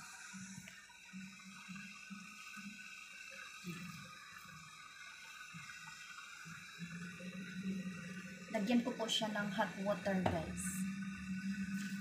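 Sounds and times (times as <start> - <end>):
running water hiss: 0.0 - 12.0.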